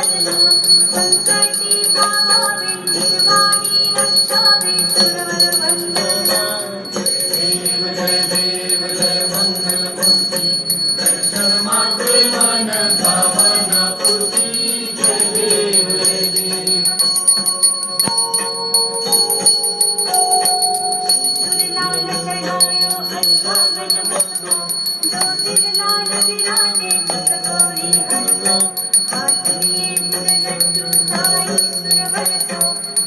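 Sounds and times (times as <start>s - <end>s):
devotional music: 0.0s - 33.0s
hand bell ringing: 0.0s - 33.0s.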